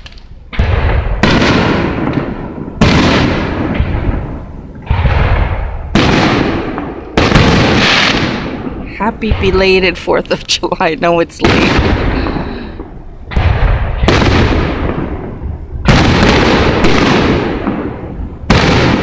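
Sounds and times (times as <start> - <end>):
firework booms: 0.0 - 10.2, 11.4 - 19.0.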